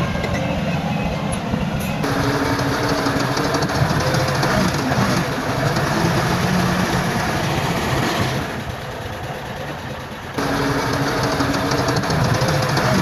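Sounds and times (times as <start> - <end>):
bulldozer diesel engine clattering: 0.0 - 13.0.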